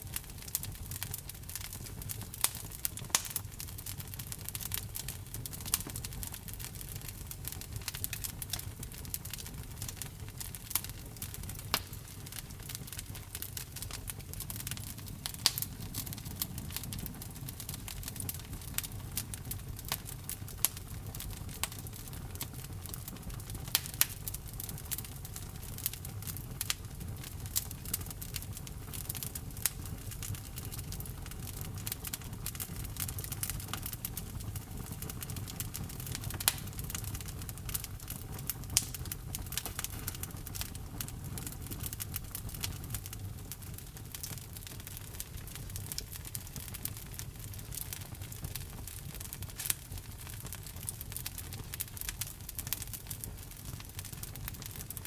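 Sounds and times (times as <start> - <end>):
logs crackling in fireplace: 0.0 - 55.0
low rumble of flames: 0.0 - 55.0
sharp pops of fire: 0.1 - 55.0.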